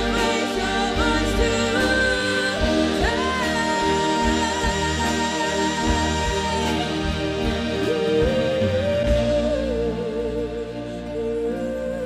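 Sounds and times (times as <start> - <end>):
big band brass and saxophones: 0.0 - 12.0
woman singing: 0.0 - 12.0.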